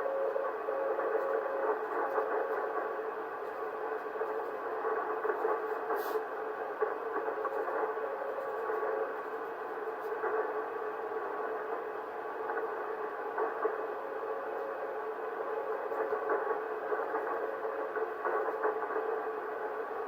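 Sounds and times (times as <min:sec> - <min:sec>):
radio band noise hiss: 0:00.0 - 0:20.0.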